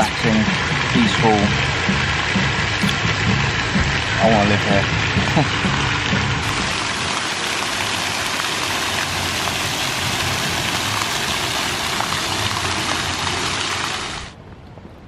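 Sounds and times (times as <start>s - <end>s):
fountain jets splashing on paving: 0.0s - 14.4s.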